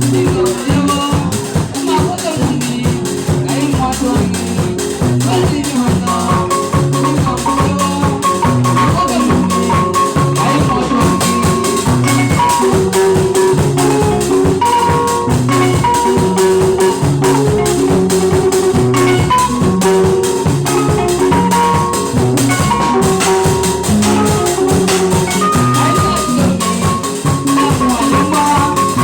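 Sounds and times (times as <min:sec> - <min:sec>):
bass line: 0:00.0 - 0:29.0
drum and percussion beat: 0:00.0 - 0:29.0
lead instrument melodic notes: 0:04.4 - 0:29.0.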